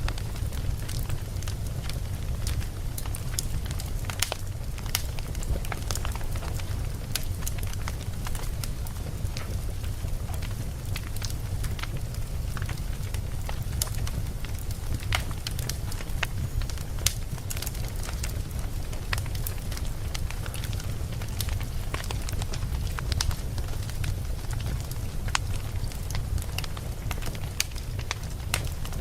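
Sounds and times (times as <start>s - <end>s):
campfire crackling: 0.0s - 29.0s
low rumble of burning wood: 0.0s - 29.0s.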